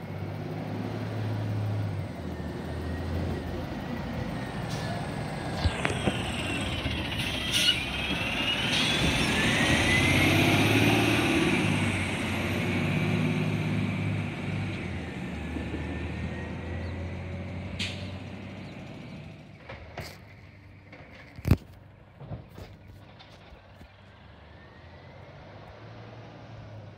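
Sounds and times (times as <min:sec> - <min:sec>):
garbage truck engine driving past: 0:00.0 - 0:21.2, 0:21.9 - 0:26.9.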